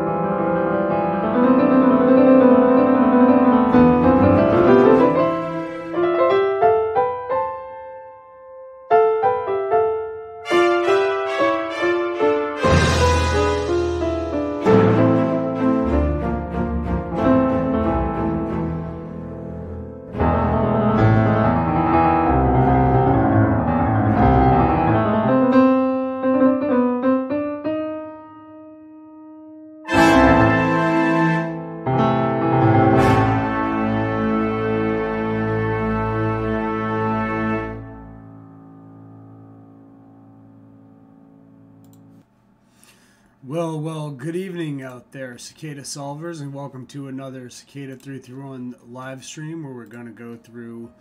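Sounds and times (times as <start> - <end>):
piano music: 0.0 - 42.2.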